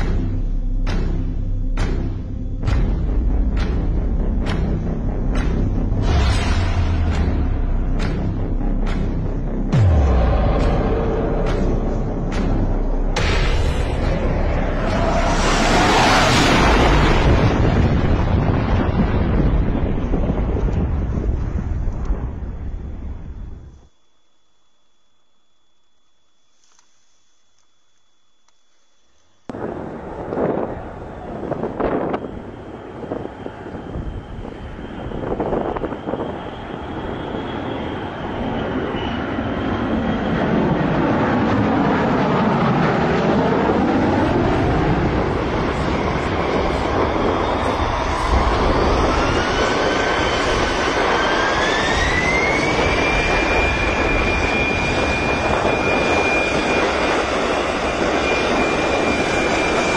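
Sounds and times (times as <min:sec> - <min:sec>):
gusty rumbles: 0:00.0 - 0:23.9, 0:29.5 - 0:59.9
airplane engine passing: 0:03.6 - 0:22.3, 0:29.5 - 0:59.9.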